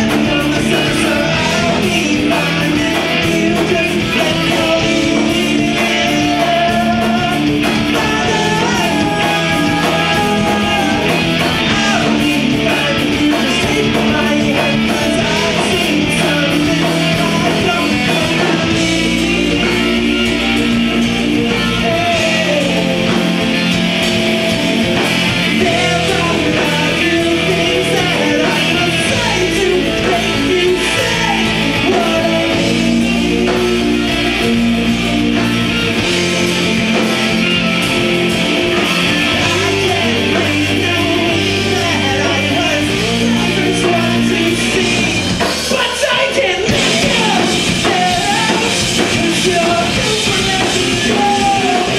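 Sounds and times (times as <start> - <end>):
live rock band playing: 0.0 - 51.9
melodic electric guitar lines: 0.0 - 51.9.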